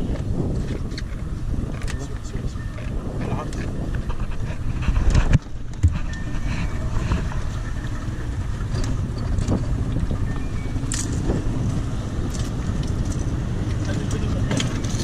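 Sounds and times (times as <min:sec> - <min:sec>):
boat engine rumble: 0:00.0 - 0:15.0
wind buffeting microphone: 0:00.0 - 0:15.0.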